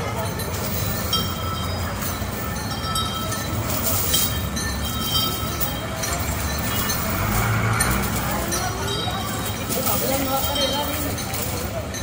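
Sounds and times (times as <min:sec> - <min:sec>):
rumbling street noise: 0:00.0 - 0:12.0.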